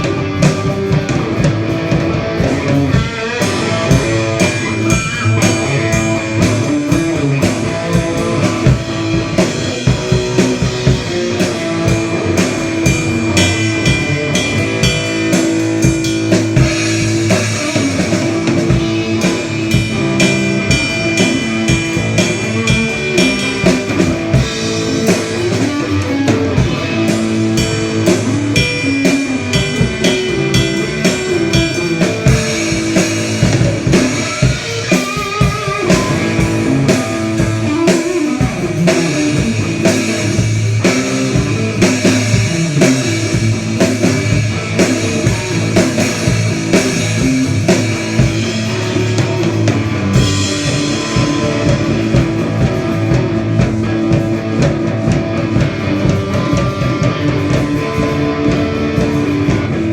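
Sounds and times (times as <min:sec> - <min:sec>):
drum kit beating: 0:00.0 - 0:59.9
electric guitar: 0:00.0 - 0:59.9.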